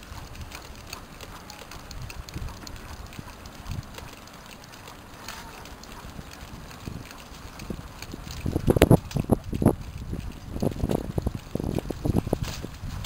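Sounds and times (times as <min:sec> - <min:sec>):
light clicks and rattles: 0:00.0 - 0:13.0
wheels rumbling on pavement: 0:00.0 - 0:13.0
wind buffeting microphone: 0:00.0 - 0:13.0.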